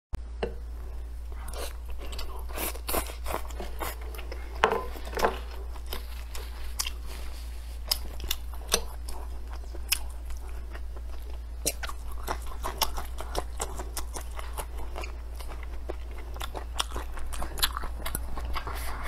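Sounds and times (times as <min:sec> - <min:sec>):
steady low hum: 0:00.2 - 0:19.0
person chewing crunchy food: 0:00.8 - 0:19.0.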